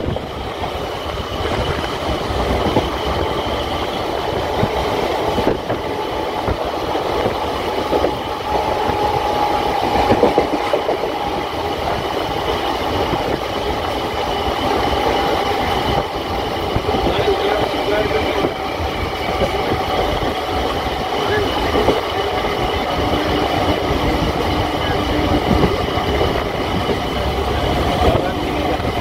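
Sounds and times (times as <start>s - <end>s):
train coach running noise: 0.0s - 29.0s.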